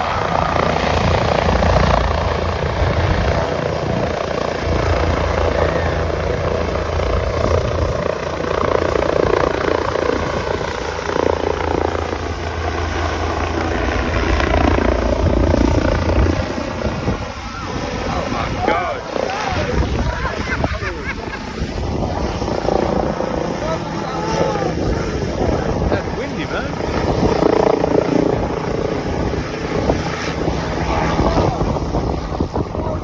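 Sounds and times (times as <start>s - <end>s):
helicopter rotor and engine: 0.0s - 33.0s.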